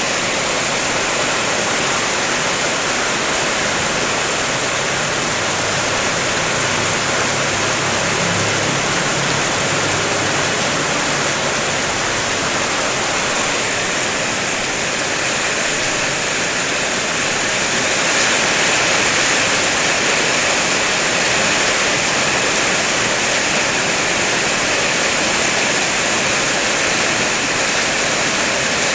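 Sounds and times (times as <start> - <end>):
heavy rain on car roof: 0.0 - 28.9.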